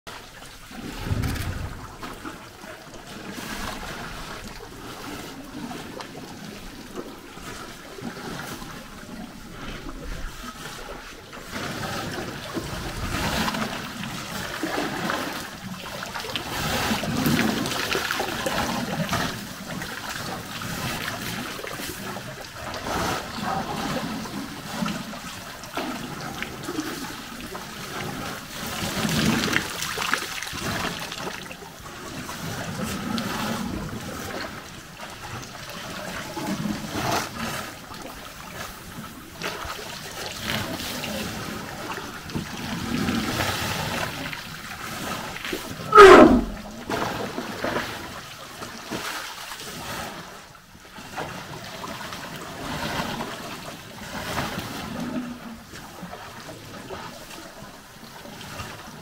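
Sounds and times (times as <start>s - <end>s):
water splashing and trickling: 0.1s - 59.0s.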